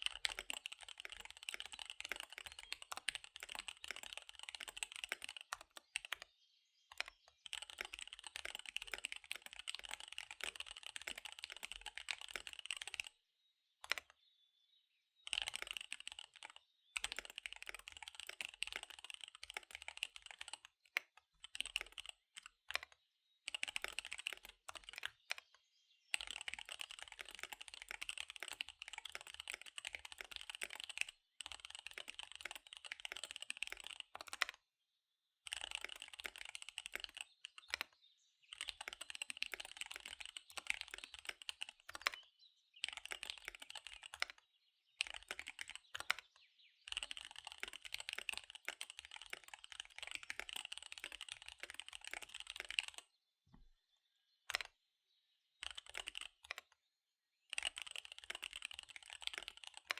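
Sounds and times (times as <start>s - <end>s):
fast mechanical keyboard typing: 0.0s - 6.2s, 6.9s - 13.1s, 13.8s - 14.1s, 15.3s - 25.5s, 26.1s - 34.6s, 35.4s - 44.4s, 45.0s - 46.3s, 46.9s - 53.1s, 54.5s - 54.7s, 55.6s - 56.7s, 57.5s - 59.9s.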